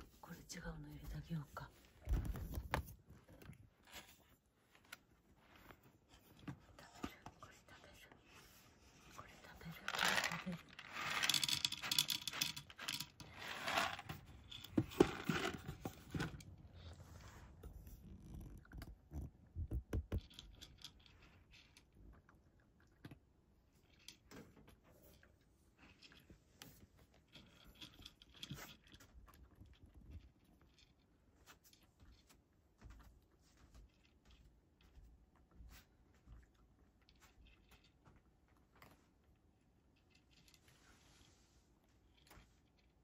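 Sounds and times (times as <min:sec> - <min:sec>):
rustling and scraping handling: 0:00.0 - 0:22.3, 0:23.7 - 0:43.0.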